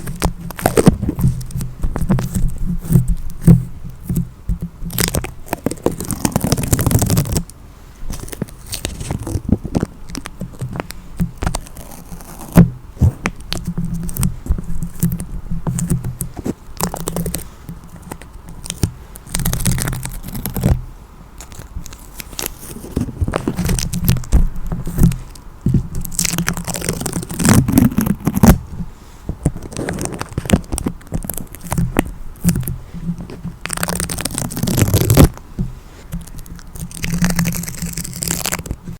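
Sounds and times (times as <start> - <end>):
adhesive tape peeling: 0.0 - 7.5, 8.1 - 20.8, 21.4 - 28.6, 29.6 - 35.4, 36.1 - 38.9.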